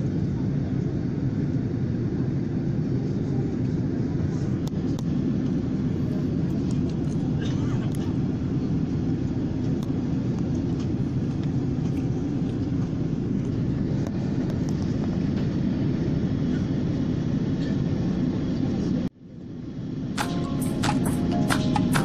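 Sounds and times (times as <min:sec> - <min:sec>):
airplane engines rumbling: 0:00.0 - 0:22.0.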